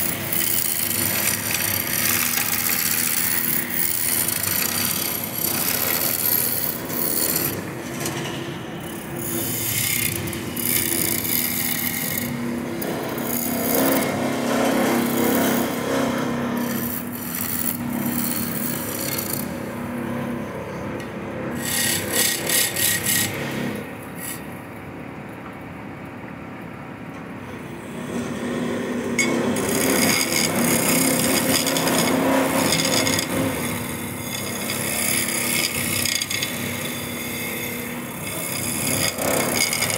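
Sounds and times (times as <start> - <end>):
wood lathe motor hum: 0.0 - 8.2, 8.8 - 20.4, 21.6 - 24.4, 27.9 - 39.9
turning tool scraping wood: 0.0 - 8.3, 8.9 - 19.6, 21.6 - 24.5, 29.2 - 39.9.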